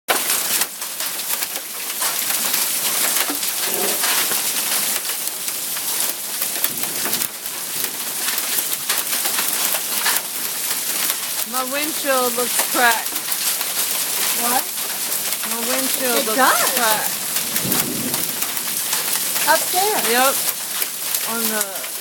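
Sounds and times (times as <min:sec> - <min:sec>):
hail clattering on cars: 0:00.1 - 0:22.0.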